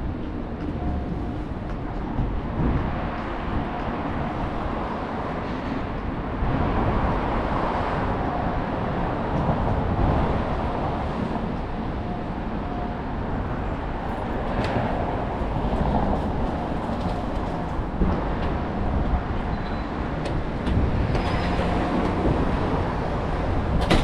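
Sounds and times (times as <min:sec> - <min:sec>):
passing vehicles: 0:00.0 - 0:24.0.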